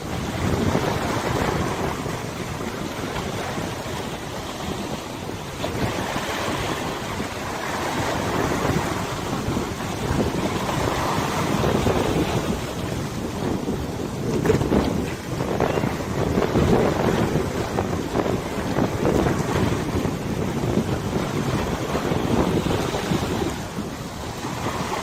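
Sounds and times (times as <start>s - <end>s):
water washing: 0.0s - 25.0s
wind buffeting microphone: 0.0s - 25.0s.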